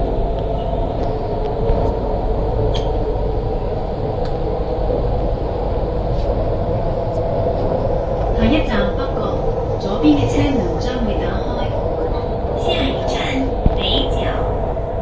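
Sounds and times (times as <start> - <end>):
train wheels and motors rumbling: 0.0 - 15.0.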